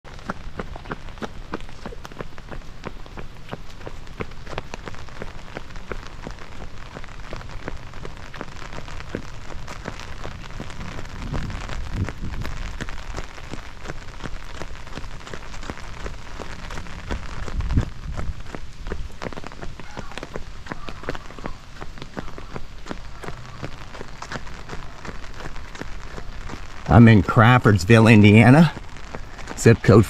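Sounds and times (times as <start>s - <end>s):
rain hissing on wet pavement: 0.1s - 30.0s
raindrops ticking on umbrella: 0.1s - 30.0s.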